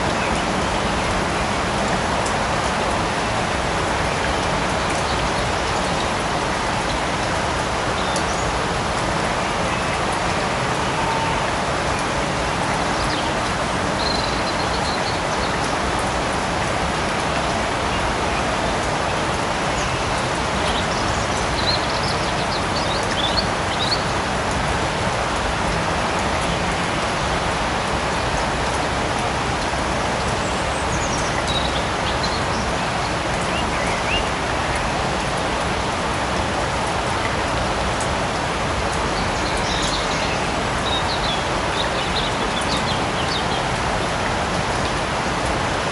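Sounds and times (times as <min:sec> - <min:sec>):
light rain falling in forest: 0:00.0 - 0:45.9.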